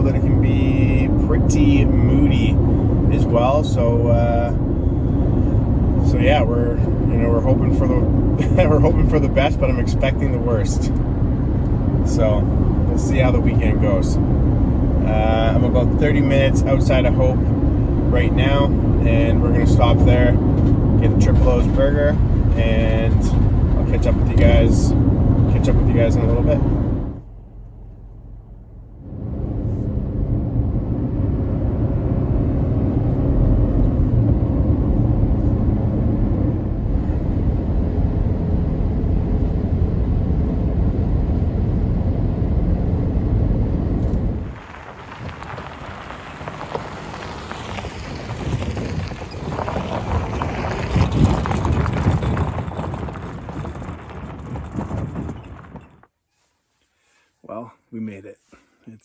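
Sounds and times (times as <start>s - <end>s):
vehicle road and engine rumble: 0.0s - 56.2s.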